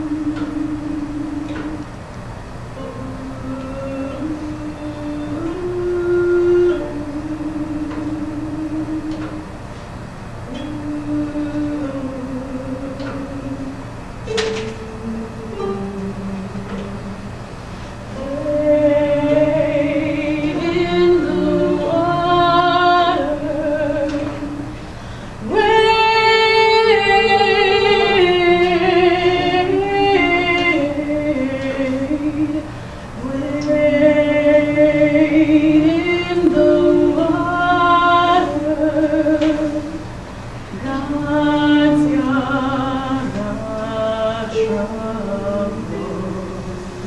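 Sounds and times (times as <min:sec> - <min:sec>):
woman singing slow melody: 0:00.0 - 0:02.0, 0:02.7 - 0:09.7, 0:10.4 - 0:47.0.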